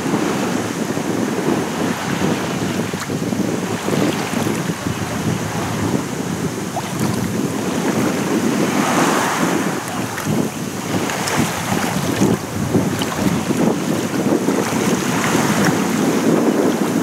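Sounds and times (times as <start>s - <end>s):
small waves lapping on shore: 0.0s - 17.0s
wind buffeting microphone: 0.0s - 17.0s
wave breaking: 1.6s - 17.0s.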